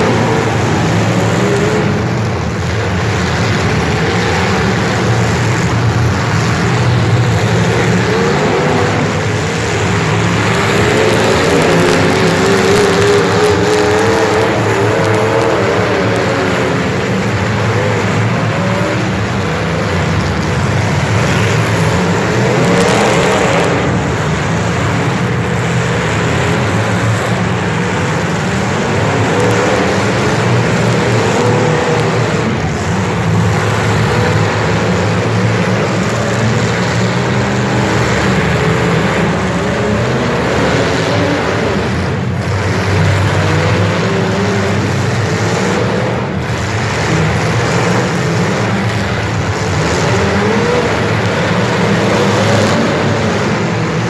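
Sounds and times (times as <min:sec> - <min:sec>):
vehicle engines droning: 0:00.0 - 0:54.0.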